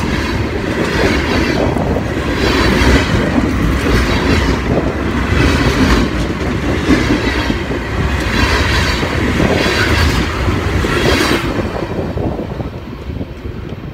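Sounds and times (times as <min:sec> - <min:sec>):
train wheels clattering on rails: 0:00.0 - 0:13.9.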